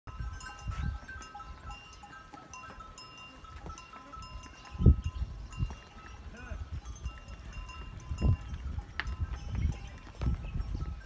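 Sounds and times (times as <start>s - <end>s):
cattle bells clinking: 0.1s - 11.0s.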